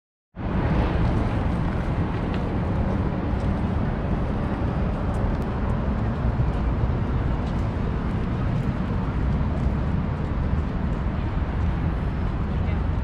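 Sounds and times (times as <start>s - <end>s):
city ambience low rumble: 0.4s - 13.0s.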